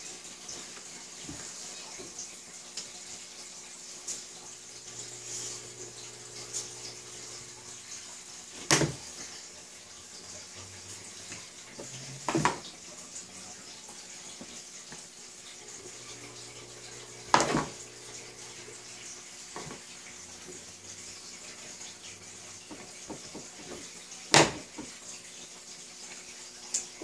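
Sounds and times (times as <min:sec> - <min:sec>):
steady hiss: 0:00.0 - 0:23.8.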